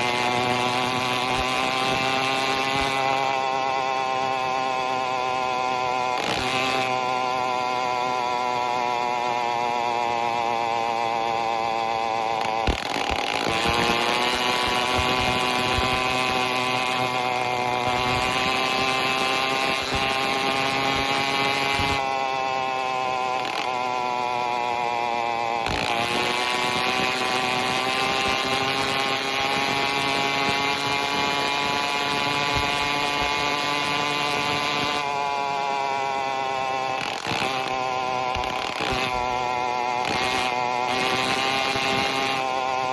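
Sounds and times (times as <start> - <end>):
two-stroke engine buzzing: 0.0 - 42.9.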